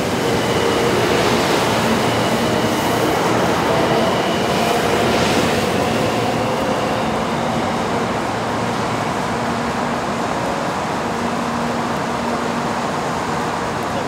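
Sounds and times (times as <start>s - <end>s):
train rushing past: 0.0s - 14.0s.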